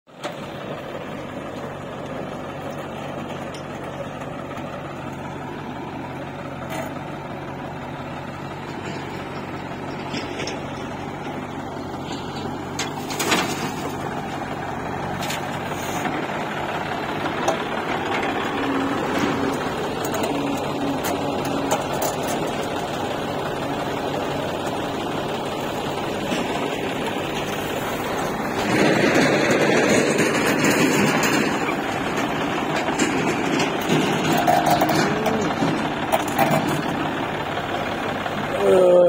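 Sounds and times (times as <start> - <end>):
diesel engines running: 0.1 - 39.0.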